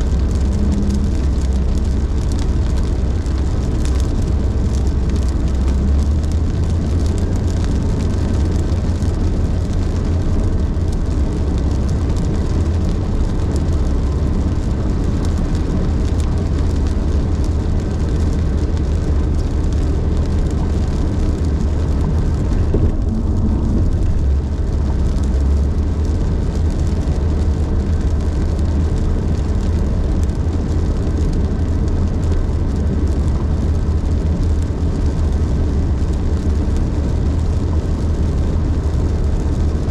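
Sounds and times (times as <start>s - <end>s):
car driving at highway speed: 0.0s - 39.9s.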